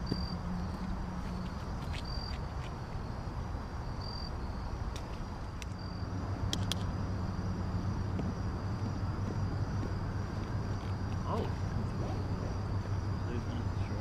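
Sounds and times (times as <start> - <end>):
insects trilling: 0.0 - 14.0
low steady rumble: 0.0 - 14.0.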